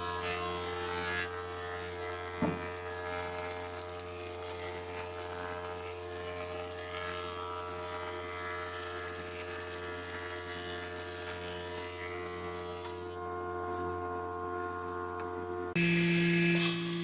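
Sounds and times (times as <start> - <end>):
small electric motor humming: 0.0 - 17.0.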